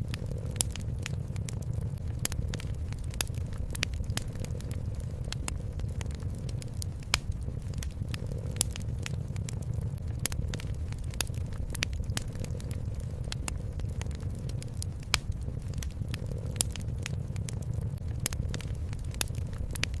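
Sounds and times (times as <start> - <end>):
low steady rumble: 0.0 - 20.0
wood fire crackling and popping: 0.0 - 20.0.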